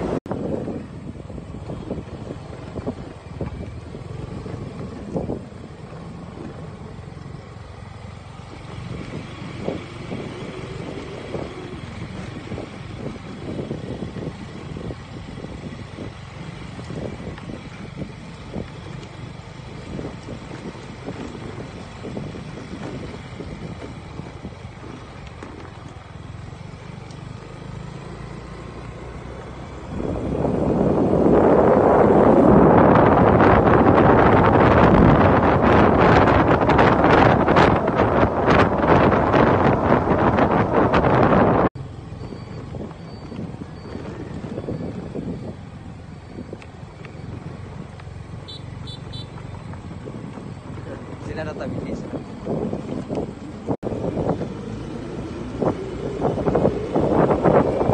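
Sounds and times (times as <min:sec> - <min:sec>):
low rumble of vehicle ride: 0:00.0 - 0:57.9
wind buffeting the microphone: 0:00.0 - 0:57.9.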